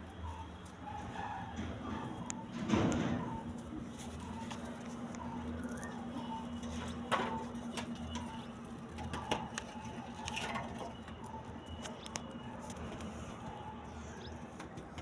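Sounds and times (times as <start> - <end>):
rabbits munching leaves: 0.0 - 14.6.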